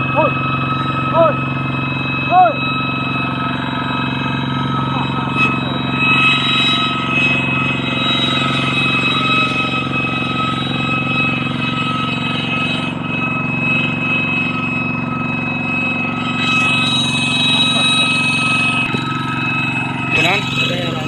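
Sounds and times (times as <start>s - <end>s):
diesel engine running: 0.0s - 21.0s
high-pitched whistling tone: 0.0s - 21.0s.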